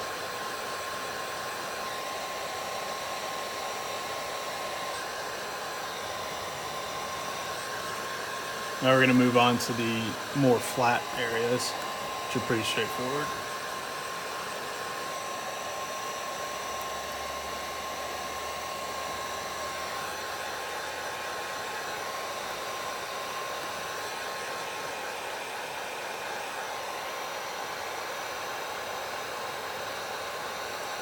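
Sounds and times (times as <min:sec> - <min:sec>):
heat gun fan whining: 0:00.0 - 0:31.0.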